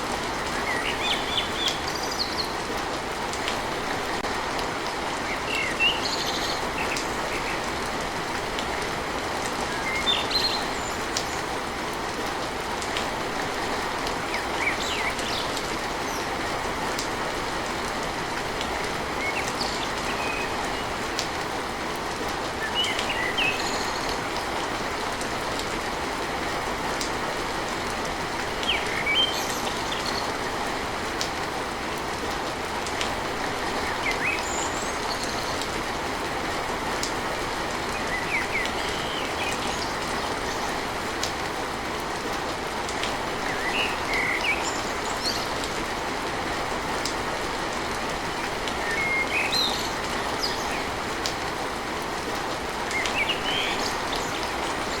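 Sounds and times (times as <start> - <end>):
rain drumming on a tin roof: 0.0 - 55.0.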